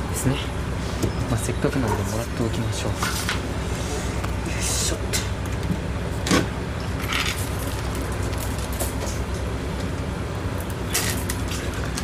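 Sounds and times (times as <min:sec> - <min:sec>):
diesel train idling rumble: 0:00.0 - 0:12.0.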